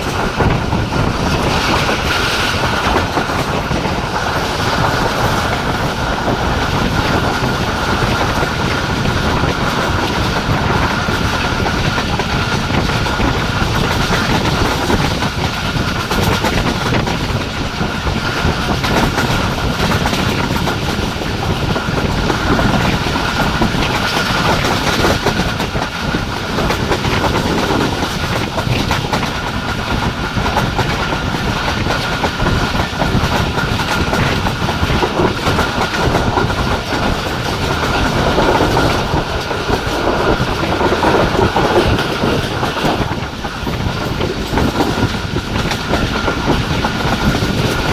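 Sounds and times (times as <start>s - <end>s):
train wheels rumbling on track: 0.0s - 47.9s
wheels clacking over rail joints: 0.0s - 47.9s.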